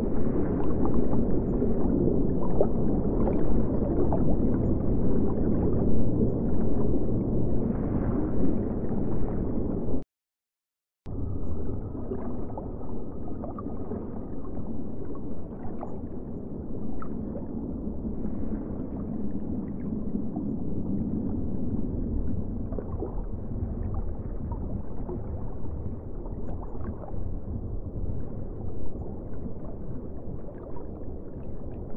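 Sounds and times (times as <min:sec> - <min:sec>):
underwater bubbling: 0:00.0 - 0:10.0, 0:11.1 - 0:31.9.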